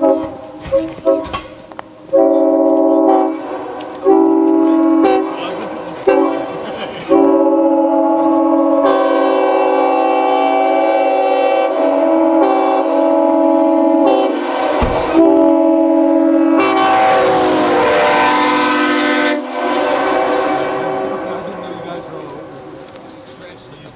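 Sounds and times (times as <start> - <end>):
air horn chord: 0.0 - 1.4, 2.1 - 22.0.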